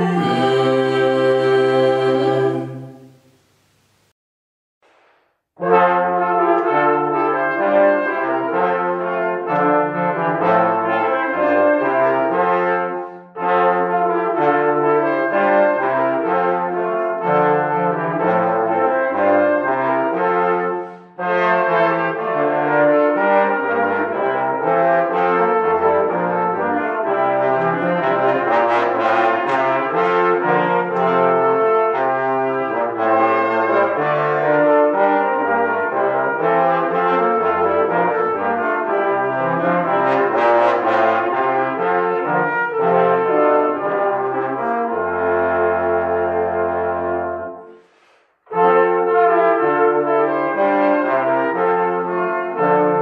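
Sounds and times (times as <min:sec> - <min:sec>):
brass ensemble playing chords: 0:00.0 - 0:03.2, 0:05.6 - 0:47.9, 0:48.5 - 0:53.0.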